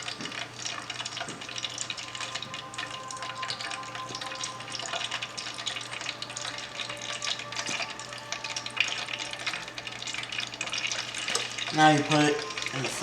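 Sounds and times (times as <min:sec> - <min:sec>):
oil crackling and sizzling: 0:00.0 - 0:13.0.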